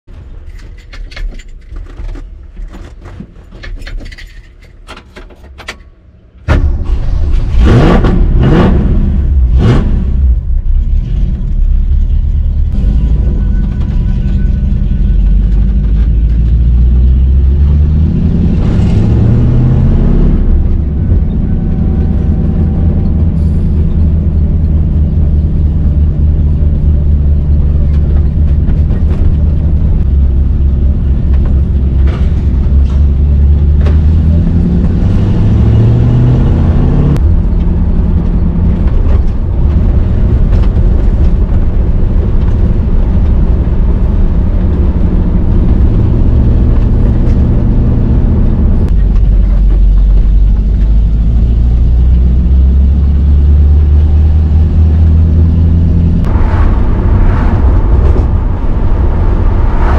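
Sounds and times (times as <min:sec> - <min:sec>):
car engine revving and idling: 0:06.6 - 0:59.9.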